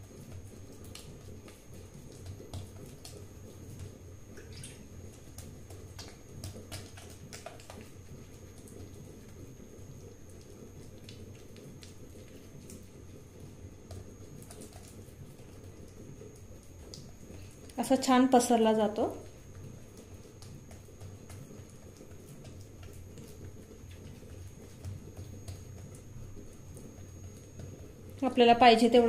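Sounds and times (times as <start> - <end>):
hand patting wet dough: 0.0 - 29.0.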